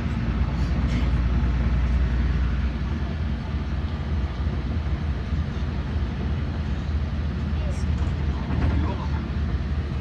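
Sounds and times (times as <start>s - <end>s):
bus engine drone inside cabin: 0.0s - 10.0s.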